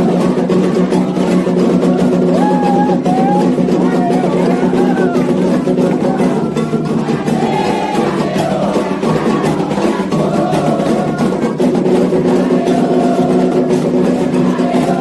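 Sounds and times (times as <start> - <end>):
clacking percussion: 0.0 - 15.0
fast hand drumming: 0.0 - 15.0
singing: 0.0 - 15.0.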